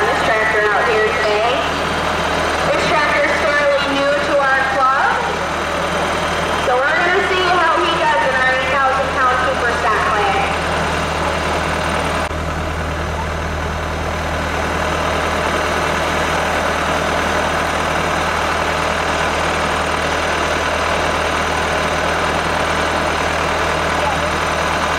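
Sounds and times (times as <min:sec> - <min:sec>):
tractor engine idling: 0:00.0 - 0:24.9.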